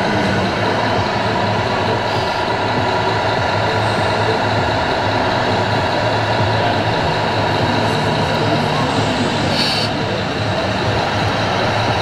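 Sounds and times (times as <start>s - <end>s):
crowded hall background noise: 0.0s - 12.0s
diesel engine rumble through small speaker: 0.0s - 12.0s.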